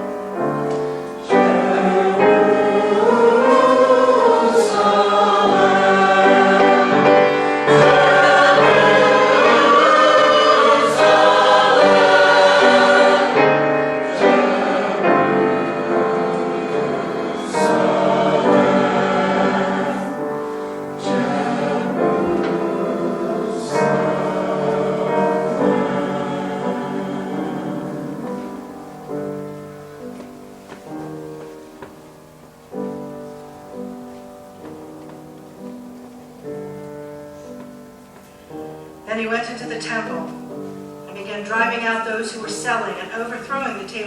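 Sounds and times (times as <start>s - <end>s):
church choir singing: 0.0s - 44.0s
piano accompaniment: 0.0s - 44.0s.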